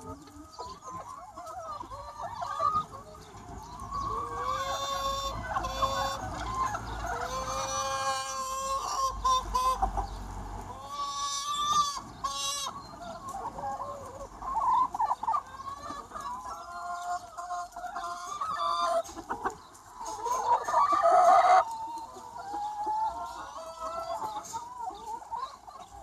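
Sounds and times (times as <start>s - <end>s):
hens clucking and calling: 0.0s - 26.0s.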